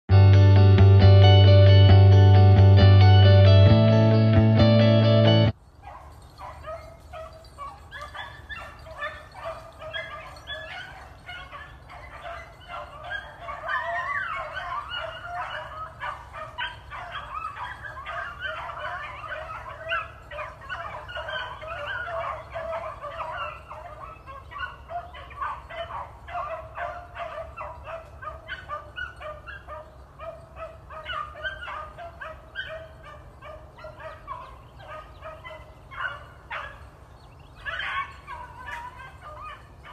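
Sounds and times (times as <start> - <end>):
pack of dogs yelping and bawling: 5.8 - 39.9.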